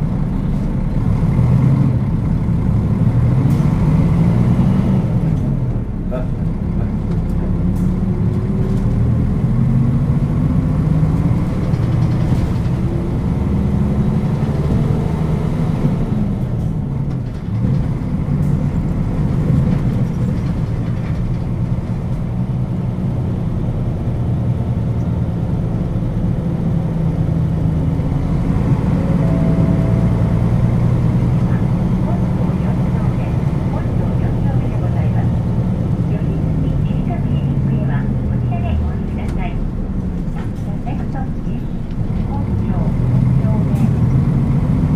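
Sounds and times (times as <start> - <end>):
diesel bus engine accelerating: 0.0 - 44.9.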